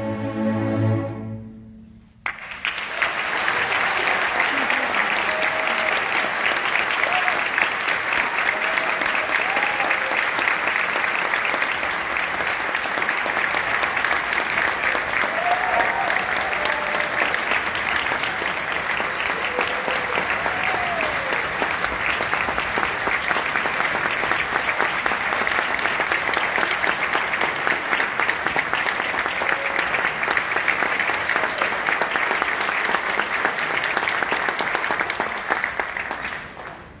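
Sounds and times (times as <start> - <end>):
audience applauding: 2.2 - 37.0.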